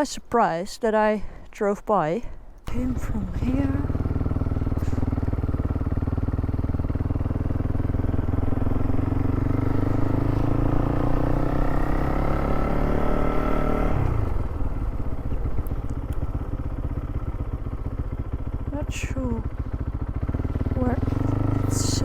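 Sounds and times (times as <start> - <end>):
motorcycle engine accelerating: 2.7 - 22.0.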